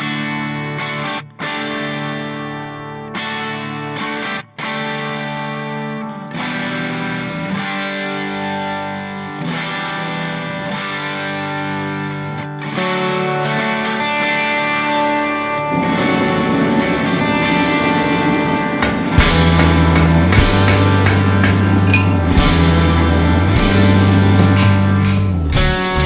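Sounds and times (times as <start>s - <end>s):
distorted electric guitar chords: 0.0s - 26.0s.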